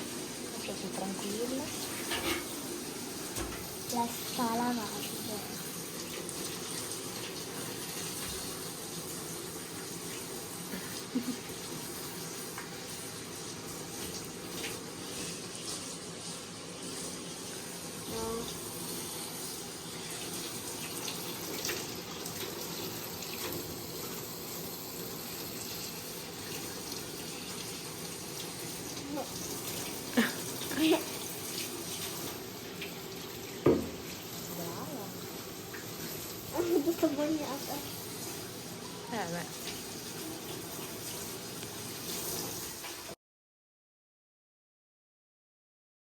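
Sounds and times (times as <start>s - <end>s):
shower head spraying water: 0.0s - 43.2s.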